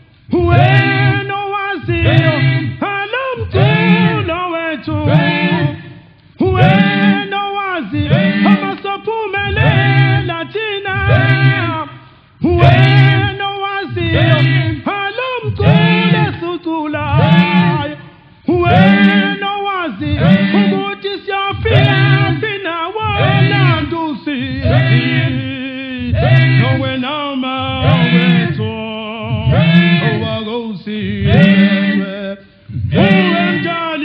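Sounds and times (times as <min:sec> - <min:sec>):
male choir singing a cappella: 0:00.3 - 0:34.0.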